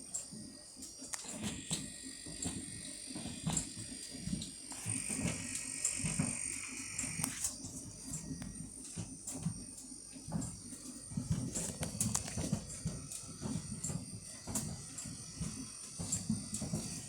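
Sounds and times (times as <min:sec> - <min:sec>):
thin high whine: 0:00.0 - 0:17.0.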